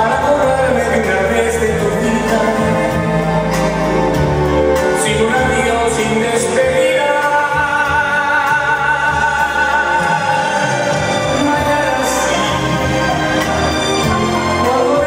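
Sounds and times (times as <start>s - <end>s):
dance music with singing: 0.0s - 15.0s.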